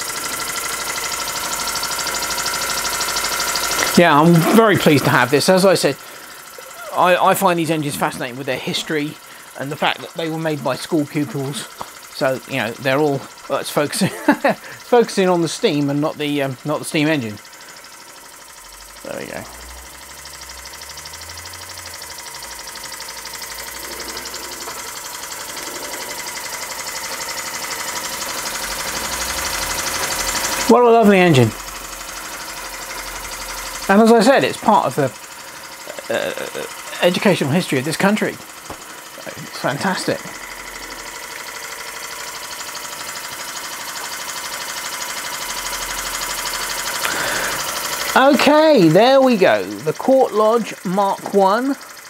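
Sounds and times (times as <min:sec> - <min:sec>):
steam engine chuffing and hissing: 0:00.0 - 0:52.0.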